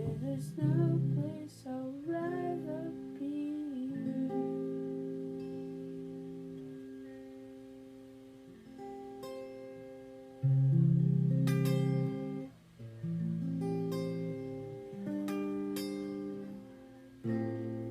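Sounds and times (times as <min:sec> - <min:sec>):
guitar chords ringing: 0:00.0 - 0:17.9.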